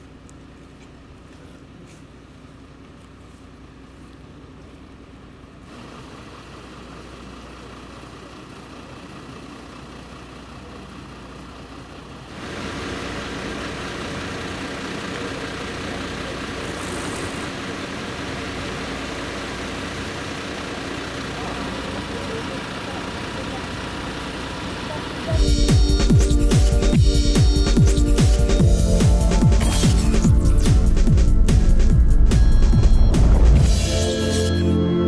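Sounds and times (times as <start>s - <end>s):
diesel engine idling: 0.0s - 34.8s.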